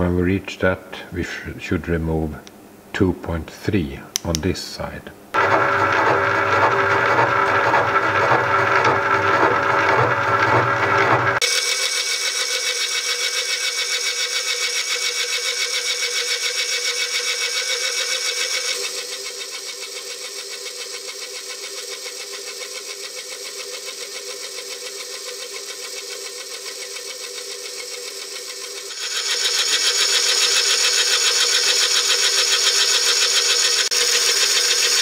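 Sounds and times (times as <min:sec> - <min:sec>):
milling machine cutting metal: 0:05.4 - 0:35.0.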